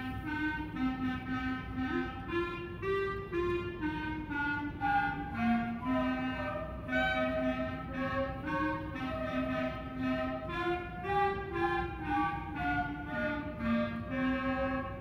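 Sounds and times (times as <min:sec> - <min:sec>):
school band playing: 0:00.0 - 0:15.0.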